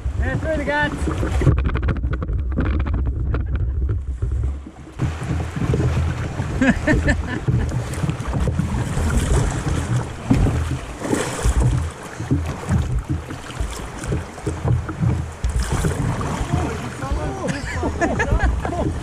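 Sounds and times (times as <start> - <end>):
water rushing and splashing: 0.0 - 19.0
wind buffeting microphone: 0.0 - 19.0.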